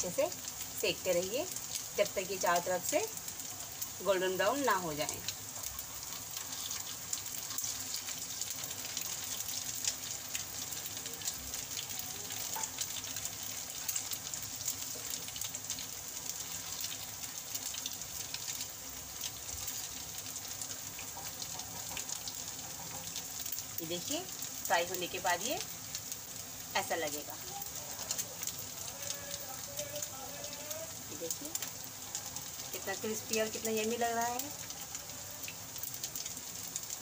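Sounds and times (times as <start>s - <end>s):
hot oil sizzling: 0.0s - 37.0s
small crackles: 0.0s - 37.0s.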